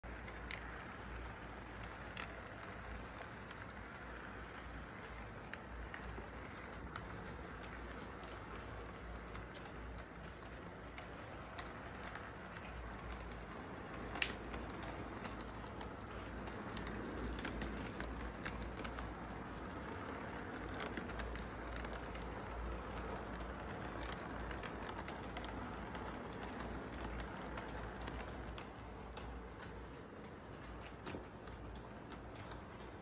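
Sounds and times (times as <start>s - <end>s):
toy train cars rumbling on track: 0.0s - 33.0s
wheels clicking over rail joints: 0.0s - 33.0s.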